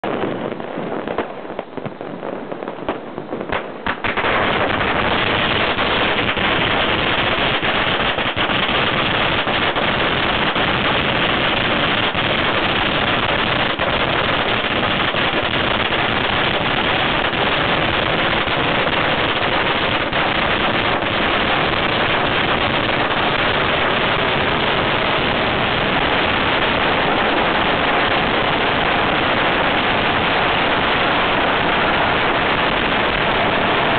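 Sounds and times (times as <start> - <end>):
firecrackers banging: 0.0 - 33.9.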